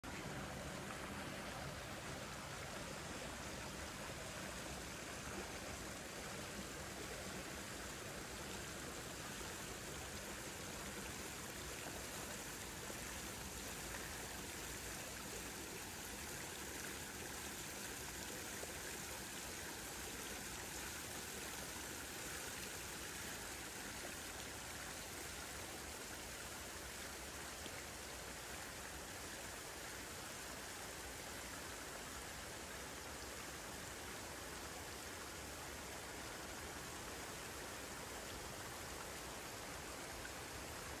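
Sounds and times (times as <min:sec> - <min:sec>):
flowing water rushing: 0:00.0 - 0:41.0.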